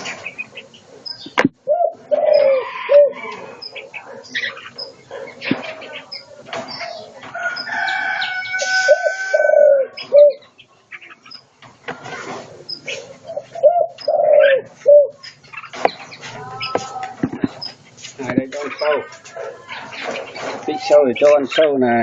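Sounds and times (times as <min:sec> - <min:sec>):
doves cooing: 0:00.0 - 0:22.0
songbirds chirping and whistling: 0:00.0 - 0:22.0.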